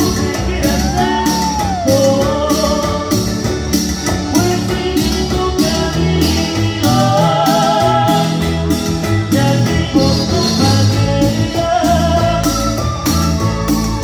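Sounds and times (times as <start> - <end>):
live band music: 0.0 - 14.0
person singing: 0.0 - 14.0.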